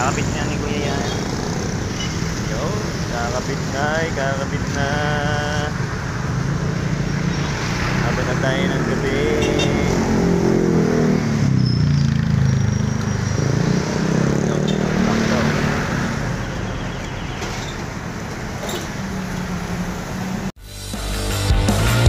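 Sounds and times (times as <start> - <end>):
traffic noise: 0.0 - 20.6
vehicle engines passing: 0.0 - 20.6.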